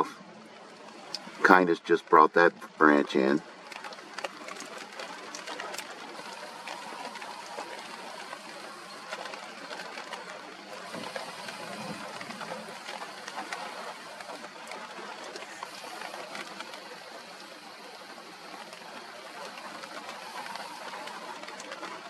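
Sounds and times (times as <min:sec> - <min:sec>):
rain hissing: 0:00.0 - 0:22.0
wind: 0:00.0 - 0:22.0
raindrops tapping: 0:00.5 - 0:22.0.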